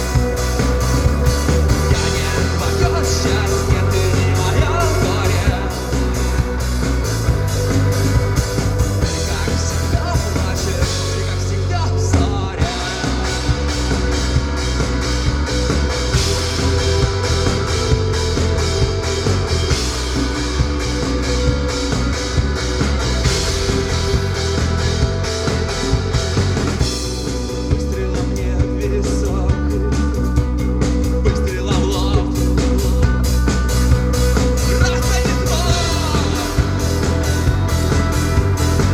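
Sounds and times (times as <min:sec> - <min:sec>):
drum kit steady beat: 0:00.0 - 0:38.9
rock band playing live: 0:00.0 - 0:38.9.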